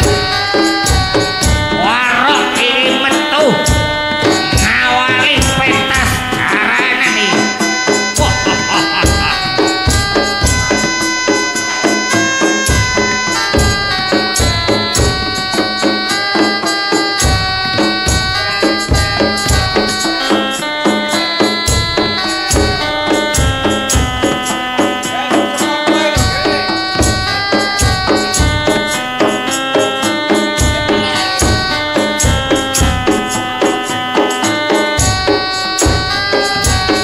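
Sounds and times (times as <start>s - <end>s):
drums: 0.0s - 37.0s
folk melody in held notes: 0.0s - 37.0s
rhythmic percussion: 0.0s - 37.0s.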